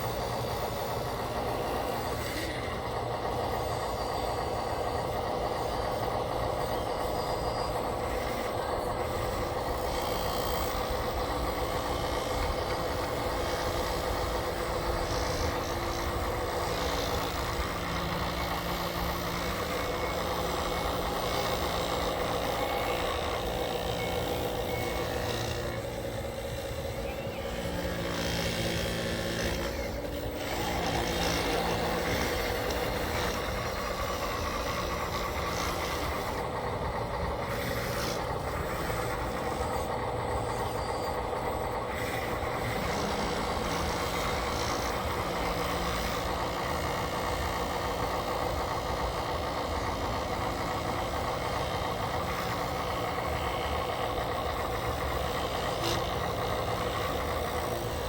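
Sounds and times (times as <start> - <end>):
mechanical whine: 0.0 - 58.0.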